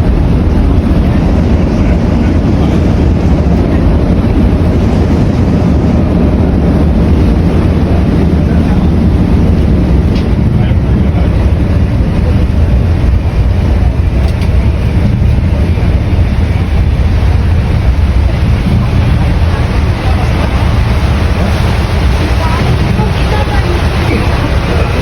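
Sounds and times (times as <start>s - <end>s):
water rushing: 0.0s - 25.0s
wind buffeting microphone: 0.0s - 25.0s.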